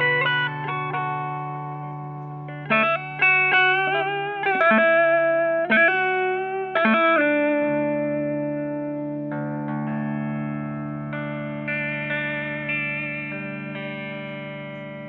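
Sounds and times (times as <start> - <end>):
slow guitar melody with effects: 0.0 - 15.0.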